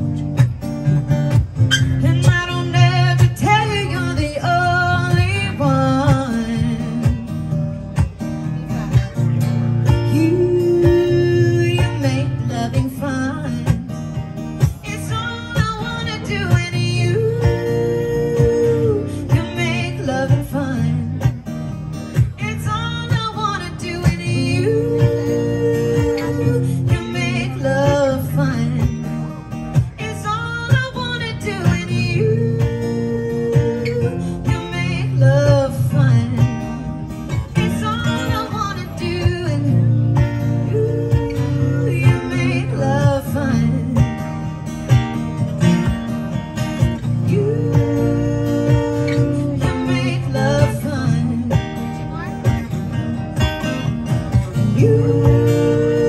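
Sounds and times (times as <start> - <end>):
acoustic guitars strummed and picked: 0.0 - 56.0
woman singing: 1.7 - 7.3, 9.8 - 21.4, 22.1 - 29.2, 29.8 - 44.6, 46.8 - 52.6, 53.7 - 56.0.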